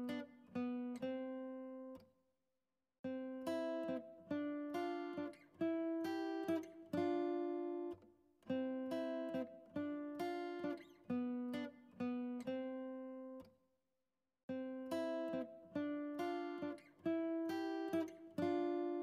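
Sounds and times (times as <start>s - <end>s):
acoustic guitar picking slow melody: 0.0s - 2.0s, 3.1s - 13.4s, 14.5s - 19.0s.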